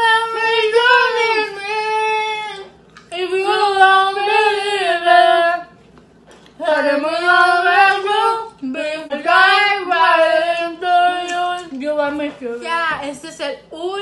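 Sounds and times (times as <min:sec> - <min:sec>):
women singing a cappella: 0:00.0 - 0:05.8, 0:06.6 - 0:14.0.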